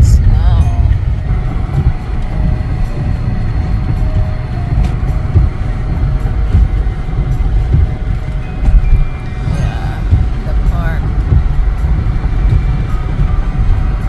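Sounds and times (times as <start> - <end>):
vehicle interior rumble: 0.0 - 14.0.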